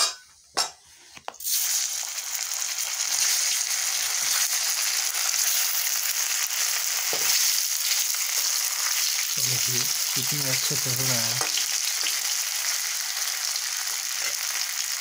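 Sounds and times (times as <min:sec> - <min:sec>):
dough balls sizzling in hot oil: 0:01.3 - 0:15.0.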